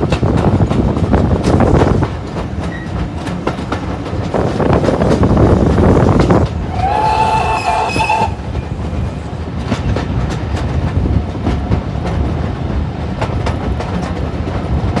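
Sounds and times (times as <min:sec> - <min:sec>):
railway carriage rumbling: 0:00.0 - 0:15.0
wheels clicking over rail joints: 0:00.0 - 0:15.0.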